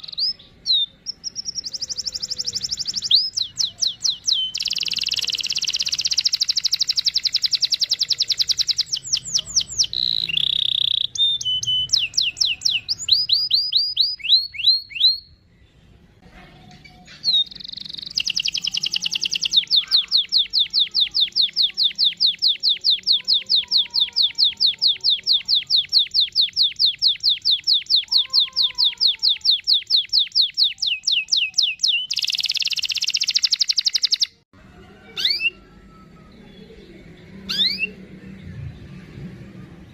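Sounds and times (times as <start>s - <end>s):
canary singing trills: 0.0s - 16.0s, 16.8s - 34.4s, 35.0s - 38.4s.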